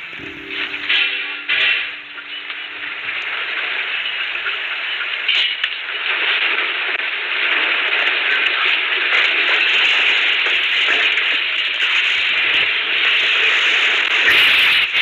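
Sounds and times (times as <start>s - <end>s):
hiss and crackle: 0.0s - 15.0s.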